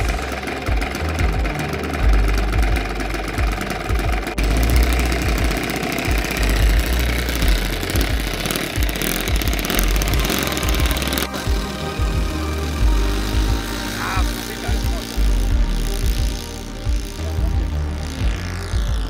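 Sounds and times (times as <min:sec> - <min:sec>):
model engine idling unevenly: 0:00.0 - 0:19.0.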